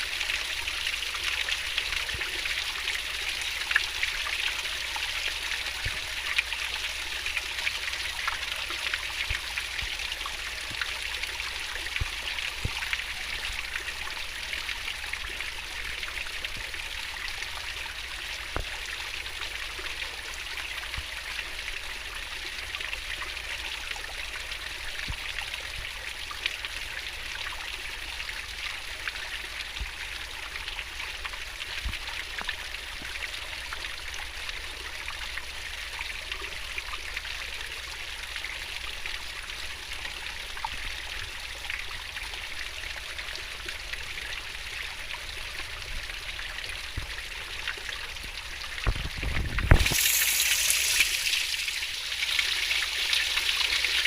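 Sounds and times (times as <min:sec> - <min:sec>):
water splashes and drips: 0:00.0 - 0:54.0.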